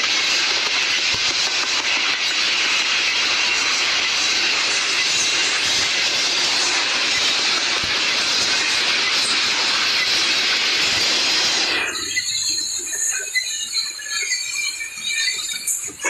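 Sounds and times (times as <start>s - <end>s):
freight train wheels on rail: 0.0s - 16.0s.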